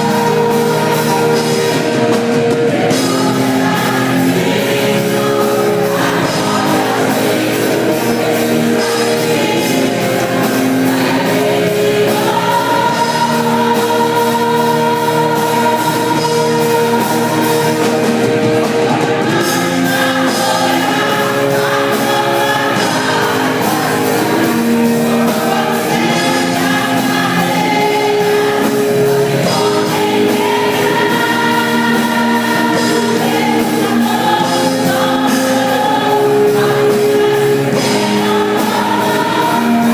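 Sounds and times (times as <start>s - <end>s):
band with steady beat: 0.0s - 39.9s
gospel group singing: 0.0s - 39.9s.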